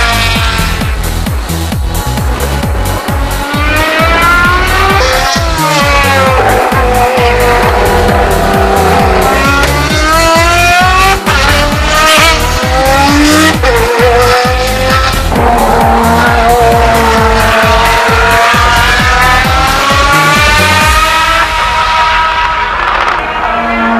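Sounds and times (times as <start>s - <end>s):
music: 0.0s - 23.9s
racing engine revving: 0.0s - 23.9s.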